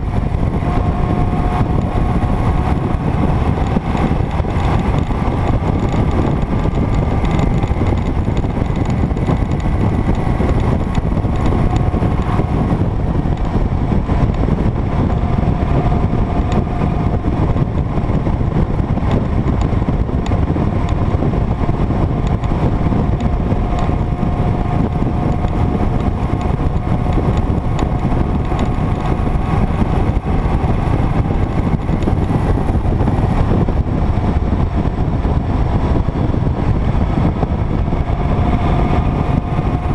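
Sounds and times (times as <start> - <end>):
motorcycle engine cruising: 0.0 - 39.9
road noise: 0.0 - 39.9
wind noise on microphone: 0.0 - 39.9.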